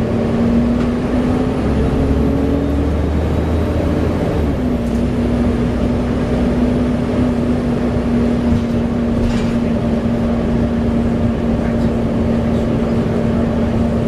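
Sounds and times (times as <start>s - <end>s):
bus diesel engine droning: 0.0s - 14.0s
engine whine: 0.0s - 14.0s.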